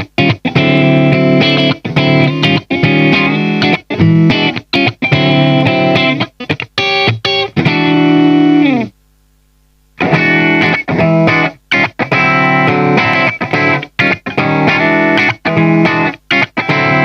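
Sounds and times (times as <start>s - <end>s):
clean electric guitar chords: 0.0s - 9.0s, 10.0s - 17.0s
faint amp hum: 0.0s - 17.0s.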